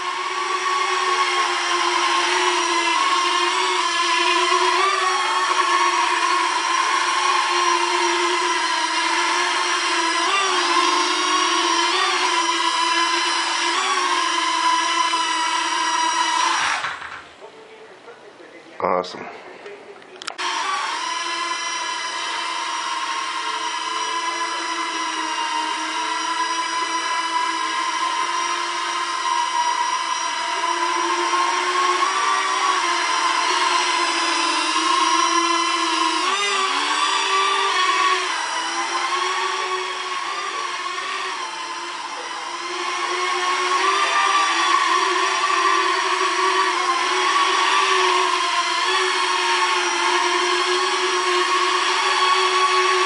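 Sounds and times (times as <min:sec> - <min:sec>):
quadcopter high-pitched whine: 0:00.0 - 0:17.1, 0:20.4 - 0:53.0.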